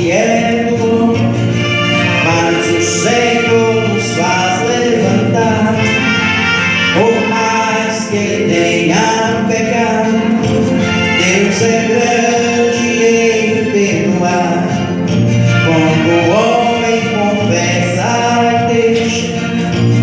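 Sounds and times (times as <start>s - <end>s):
gospel hymn singing: 0.0s - 20.0s.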